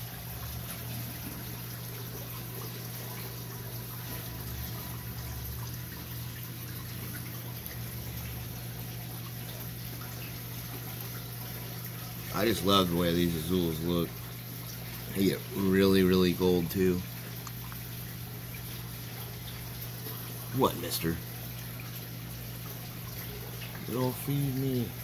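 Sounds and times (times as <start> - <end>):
water trickling into tank: 0.0 - 25.0.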